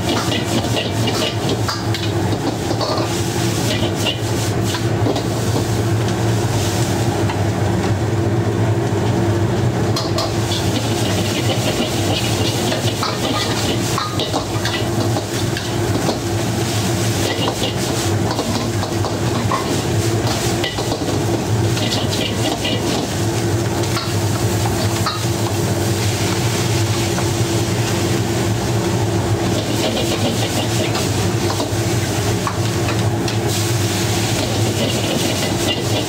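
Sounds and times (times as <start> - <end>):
sizzling: 0.0 - 7.6, 9.5 - 36.0
gas burner flame rumbling: 0.0 - 36.0.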